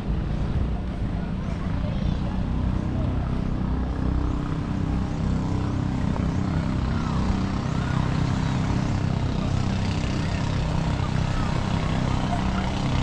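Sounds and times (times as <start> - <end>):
motor engine droning: 0.0 - 13.0.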